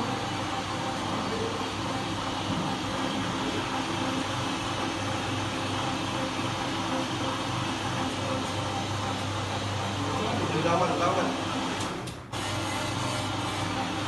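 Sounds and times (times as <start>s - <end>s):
floor machine motor whirring: 0.0s - 14.0s.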